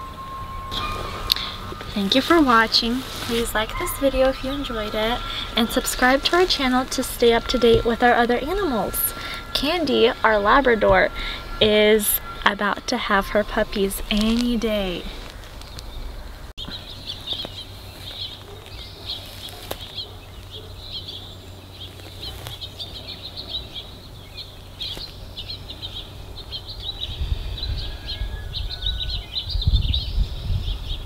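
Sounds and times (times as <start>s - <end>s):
low rumbles: 0.0s - 28.0s
small birds chirping: 0.6s - 31.0s.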